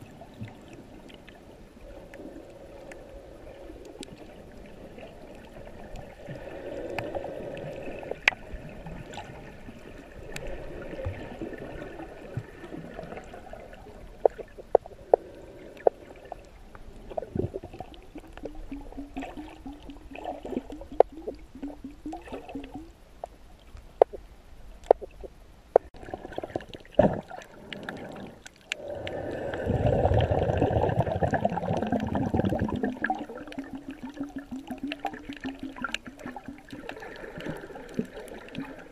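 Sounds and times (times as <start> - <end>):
water gurgling underwater: 4.0 - 23.4, 24.8 - 38.9.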